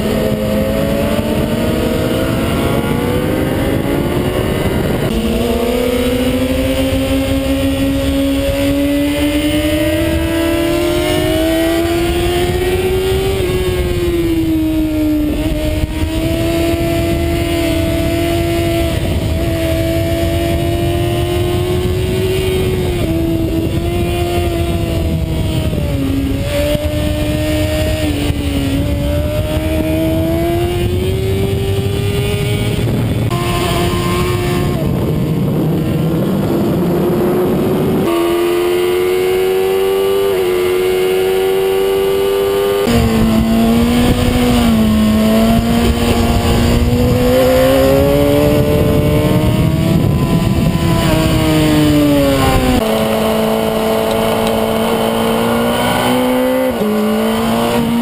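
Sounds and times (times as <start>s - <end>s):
motorcycle engine at high revs: 0.0s - 58.0s
wind noise: 0.0s - 58.0s.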